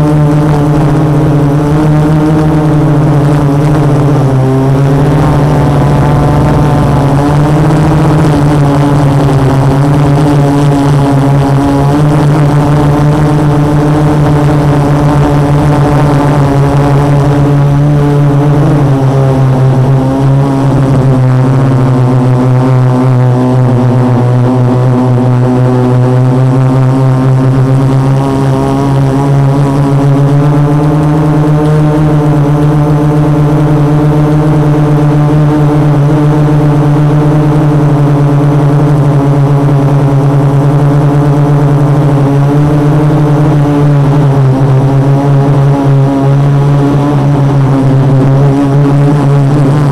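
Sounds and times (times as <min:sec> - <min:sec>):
drone motors buzzing hum: 0:00.0 - 0:49.9.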